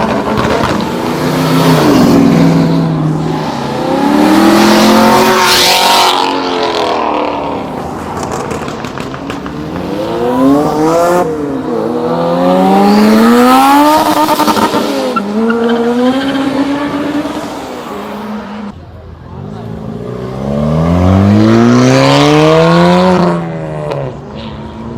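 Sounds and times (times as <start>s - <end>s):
car accelerating hard: 0.0s - 18.7s, 19.6s - 24.2s.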